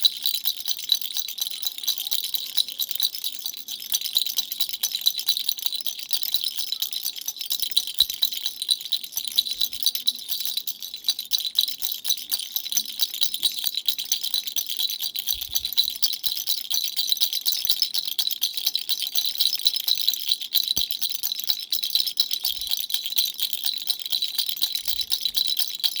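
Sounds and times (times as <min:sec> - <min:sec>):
baby rattle shaken: 0:00.0 - 0:26.0.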